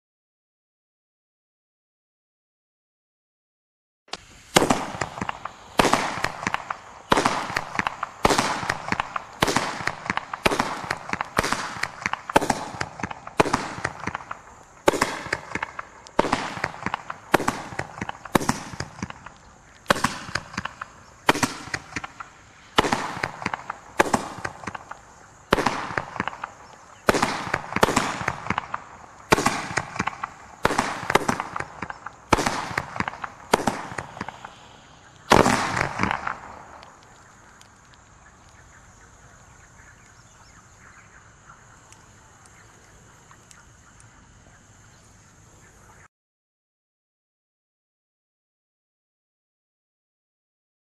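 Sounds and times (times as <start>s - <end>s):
firework shots with hiss: 4.1s - 46.1s.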